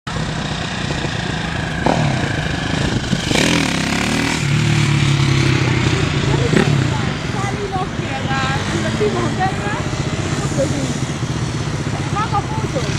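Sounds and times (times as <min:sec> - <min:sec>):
tractor engine running: 0:00.1 - 0:12.9.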